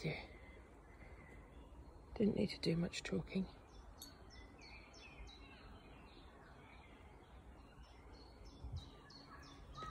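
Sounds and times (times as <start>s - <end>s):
small bird chirping: 0.0s - 9.9s.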